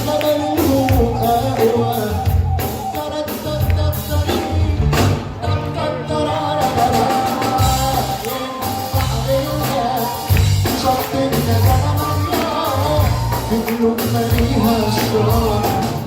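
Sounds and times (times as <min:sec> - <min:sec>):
pop song played by band: 0:00.0 - 0:16.0.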